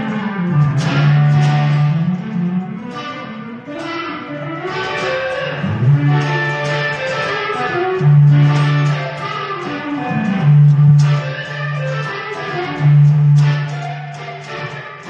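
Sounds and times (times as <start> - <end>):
electric guitar playing: 0.0 - 15.0.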